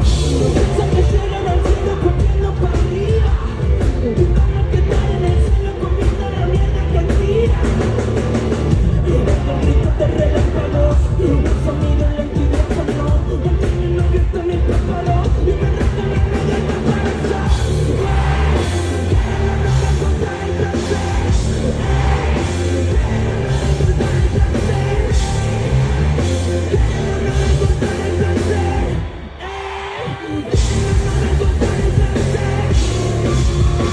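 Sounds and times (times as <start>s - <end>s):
bass: 0.0s - 29.4s, 30.0s - 33.9s
drums: 0.0s - 33.9s
sung and shouted vocals: 0.0s - 33.9s.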